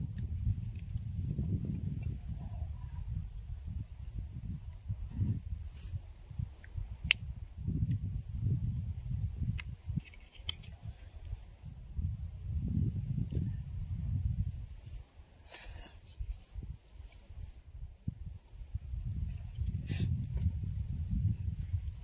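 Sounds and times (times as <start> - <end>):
insects trilling: 0.0 - 22.0
wind rumble on microphone: 0.0 - 22.0.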